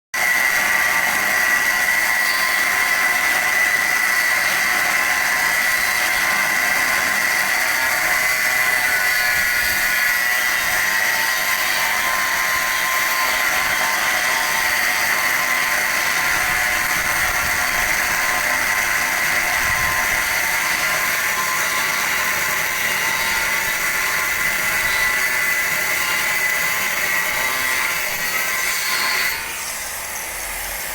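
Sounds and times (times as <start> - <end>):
cut-off disc cutting steel: 0.2 - 30.9.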